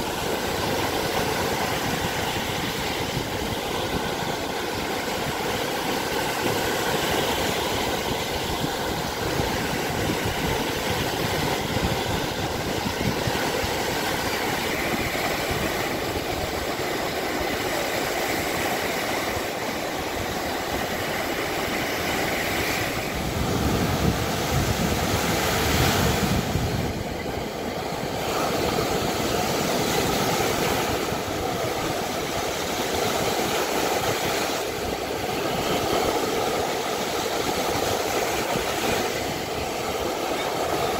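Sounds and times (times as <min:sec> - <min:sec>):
waves breaking on sandy beach: 0:00.0 - 0:40.9.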